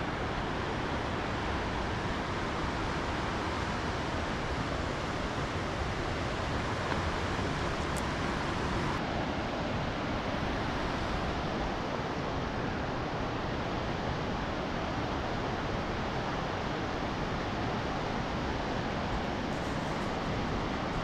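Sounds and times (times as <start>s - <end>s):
whitewater rushing: 0.0s - 21.0s.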